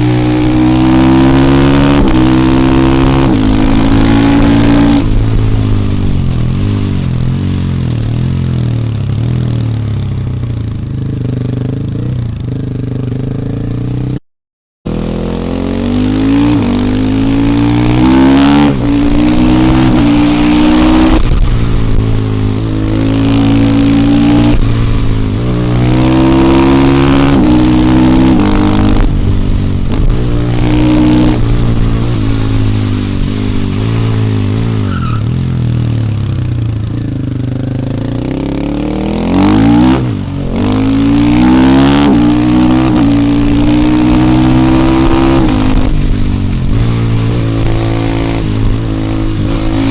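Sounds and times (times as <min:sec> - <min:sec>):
motorcycle engine accelerating: 0:00.0 - 0:14.2, 0:14.9 - 0:49.9.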